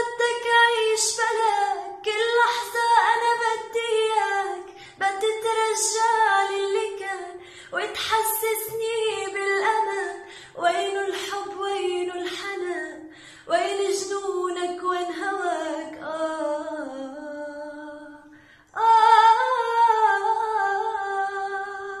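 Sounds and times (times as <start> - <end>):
woman singing a cappella: 0.0 - 22.0.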